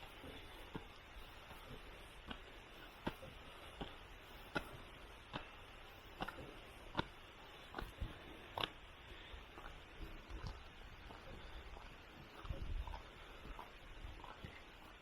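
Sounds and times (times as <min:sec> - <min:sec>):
footsteps on stone steps: 0:00.0 - 0:15.0.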